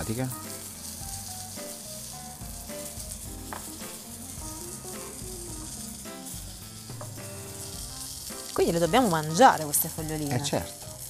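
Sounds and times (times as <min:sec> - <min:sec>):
soft background music: 0:00.0 - 0:11.0
steady hiss: 0:00.0 - 0:11.0.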